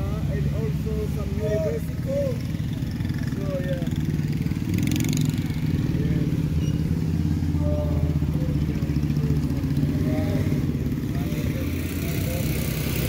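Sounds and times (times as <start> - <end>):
engine hum: 0.0 - 13.0
motorcycles passing: 0.0 - 13.0.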